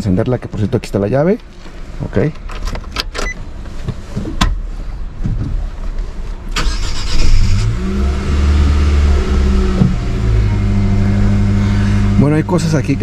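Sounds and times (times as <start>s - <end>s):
car engine starting and idling: 0.3s - 13.0s.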